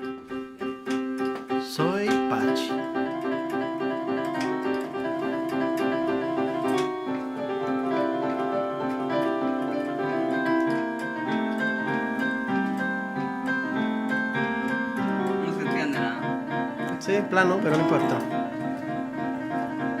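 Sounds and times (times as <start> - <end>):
electronic keyboard piano notes: 0.0 - 20.0.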